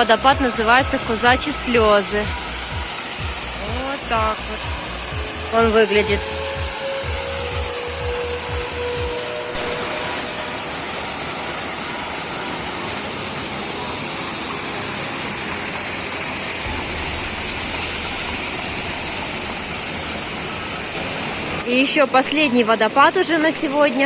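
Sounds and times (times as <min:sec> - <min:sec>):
waterfall rushing: 0:00.0 - 0:21.7.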